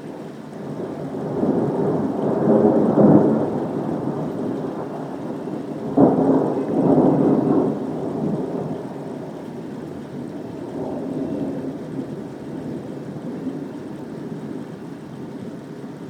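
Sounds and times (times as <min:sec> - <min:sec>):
steady rain: 0:00.0 - 0:16.0
thunder rumbling: 0:00.6 - 0:15.6.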